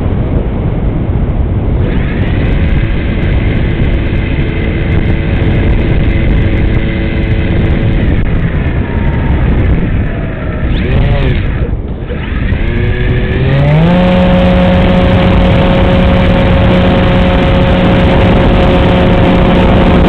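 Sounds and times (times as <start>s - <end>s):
wind rush on microphone: 0.0s - 20.0s
model airplane motor whine: 1.8s - 20.0s.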